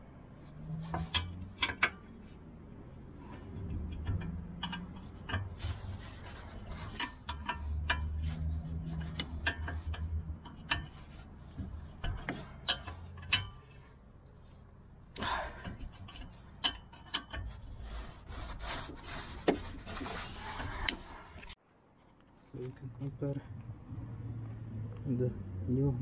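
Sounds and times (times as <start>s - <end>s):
wrench scraping and clicking on metal: 0.4s - 21.6s.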